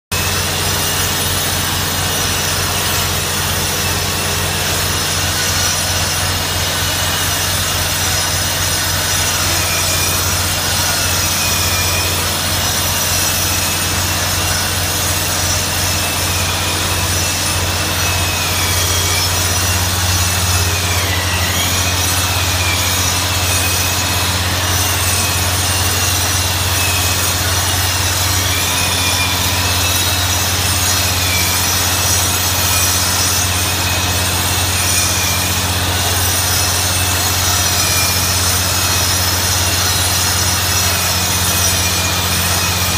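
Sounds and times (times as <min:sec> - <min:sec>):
grinder grinding concrete: 0:00.1 - 0:42.9
industrial vacuum: 0:00.1 - 0:42.9
high wavering whine: 0:00.2 - 0:42.9.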